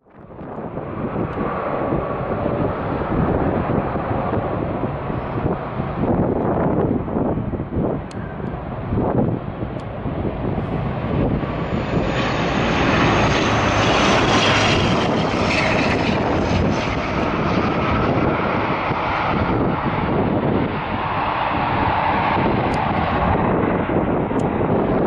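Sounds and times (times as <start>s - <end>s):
aircraft engines passing: 0.0s - 25.0s.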